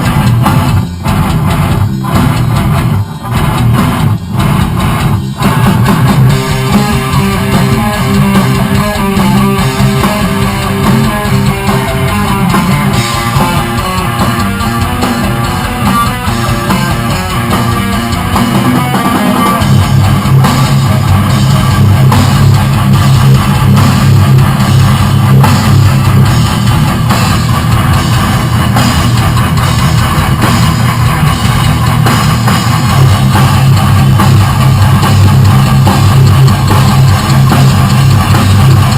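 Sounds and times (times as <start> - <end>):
heavy rock music: 0.0 - 38.9.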